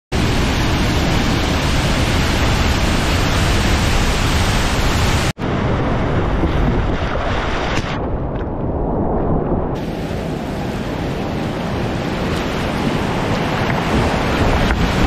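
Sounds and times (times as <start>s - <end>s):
waterfall roaring: 0.1s - 7.8s, 9.8s - 15.0s
rushing river water: 0.1s - 7.9s, 9.8s - 15.0s.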